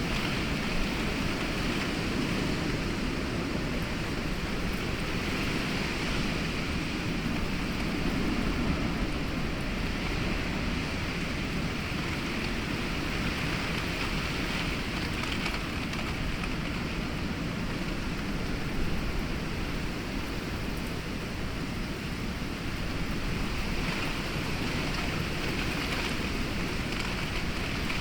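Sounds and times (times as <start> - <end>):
gusting wind: 0.0 - 28.0
heavy rain falling: 0.0 - 28.0.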